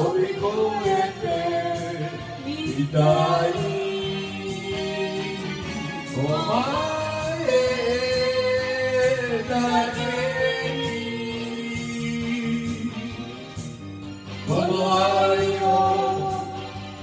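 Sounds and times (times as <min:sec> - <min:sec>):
person singing into a microphone: 0:00.0 - 0:13.7, 0:14.4 - 0:17.0
backing track: 0:00.0 - 0:17.0.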